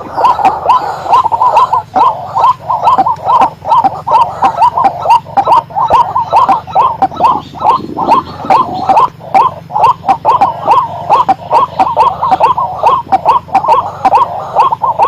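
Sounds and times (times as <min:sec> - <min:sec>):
bird croaking calls: 0:00.0 - 0:15.0.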